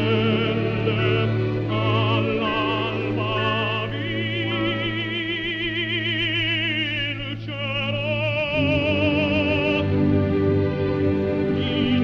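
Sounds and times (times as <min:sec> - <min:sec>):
operatic voice singing: 0:00.0 - 0:10.2, 0:11.2 - 0:12.0
low sustained accompaniment: 0:00.0 - 0:12.0.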